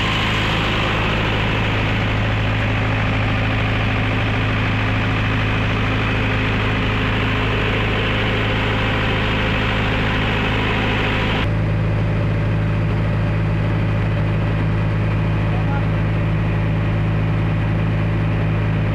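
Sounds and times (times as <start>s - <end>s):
diesel generator humming: 0.0s - 18.9s.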